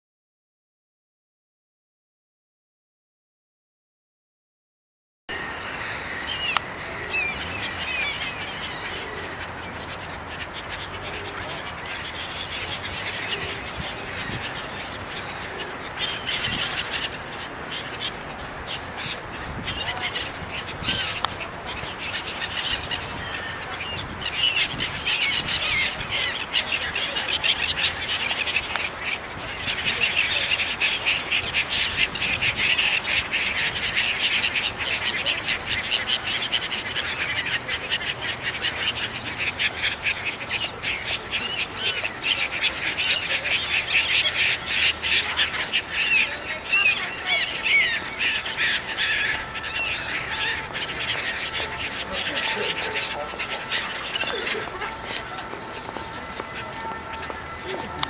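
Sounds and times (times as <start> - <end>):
gulls calling: 5.3 - 58.0.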